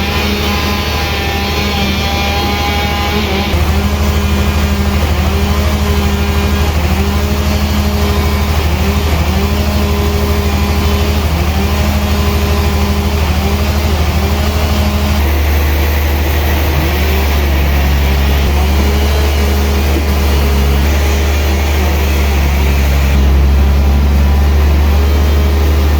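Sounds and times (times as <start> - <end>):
sawmill machinery drone: 0.0 - 25.9.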